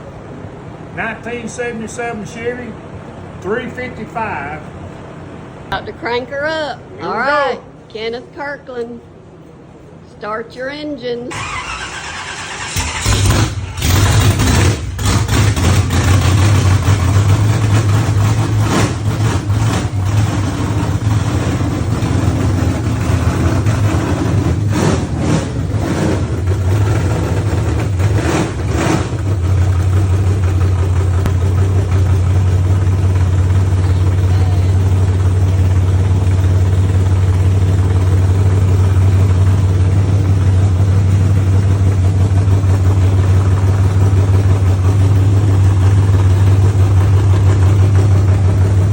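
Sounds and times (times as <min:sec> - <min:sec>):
truck engine starting and idling: 0:00.0 - 0:10.0, 0:11.0 - 0:48.9.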